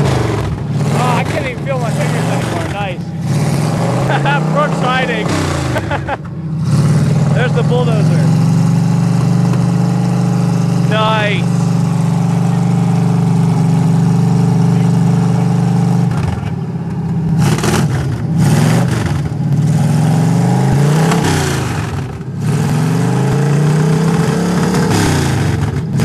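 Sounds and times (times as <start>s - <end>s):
engine idling and revving: 0.0s - 26.0s.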